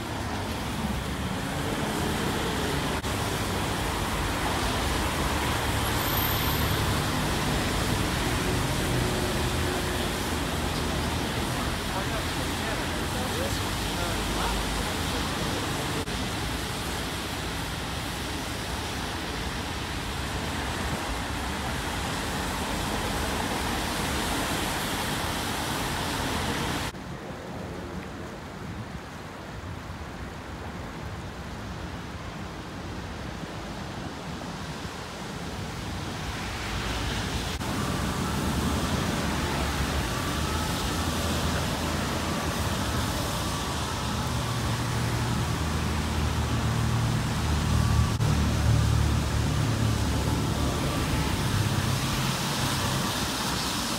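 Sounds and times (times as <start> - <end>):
city traffic: 0.0 - 53.9
river flowing: 0.0 - 53.9.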